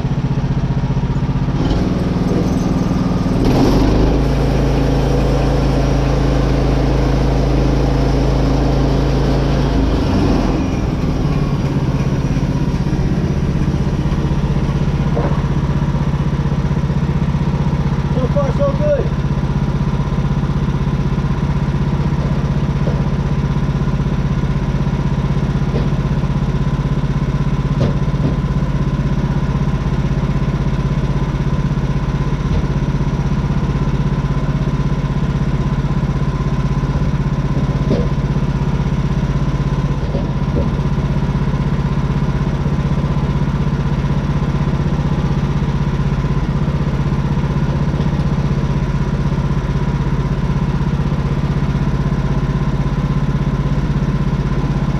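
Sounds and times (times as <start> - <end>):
gas engine running: 0.0 - 54.9.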